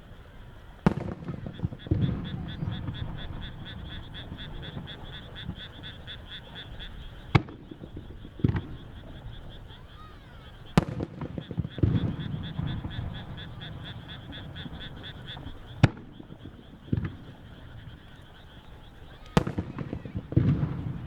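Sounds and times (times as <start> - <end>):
frogs chorus: 0.0 - 21.0
firework shells bursting: 0.8 - 6.0, 6.7 - 9.6, 10.5 - 21.0.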